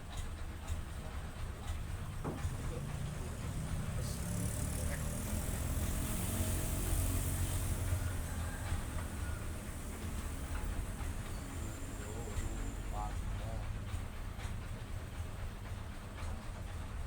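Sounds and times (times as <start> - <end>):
engine droning: 1.2 - 17.0.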